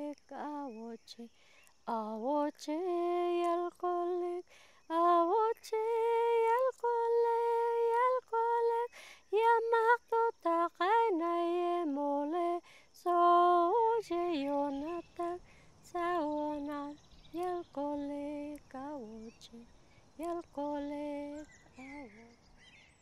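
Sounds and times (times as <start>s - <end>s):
woman singing unaccompanied: 0.0s - 22.6s.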